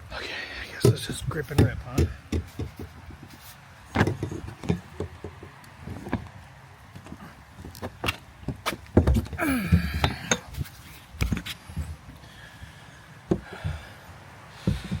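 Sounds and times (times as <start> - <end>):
knocks and thumps of climbing: 0.7 - 12.3, 13.2 - 15.0.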